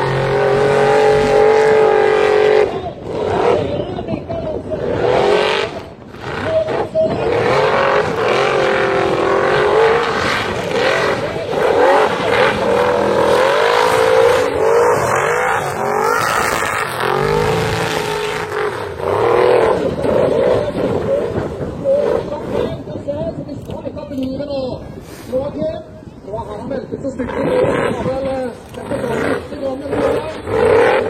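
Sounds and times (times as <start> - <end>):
race car engine revving: 0.0 - 23.2, 27.0 - 31.0.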